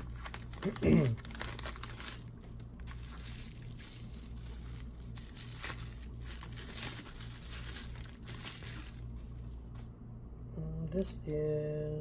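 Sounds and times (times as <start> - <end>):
plastic packaging crinkling: 0.0 - 9.9
low steady hum: 0.0 - 12.0.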